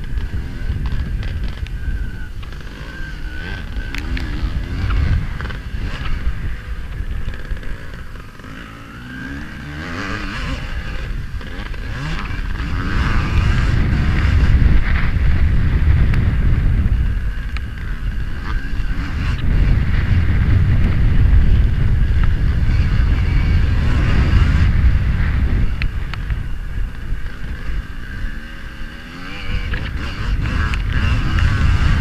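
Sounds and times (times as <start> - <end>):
motorbike engine revving: 0.0 - 32.0
wind buffeting microphone: 0.0 - 32.0.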